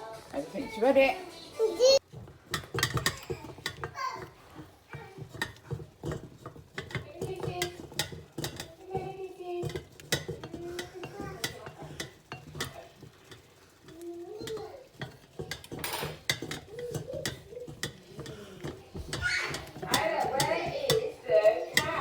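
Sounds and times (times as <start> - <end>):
utensils and dishes clinking: 0.0 - 22.0.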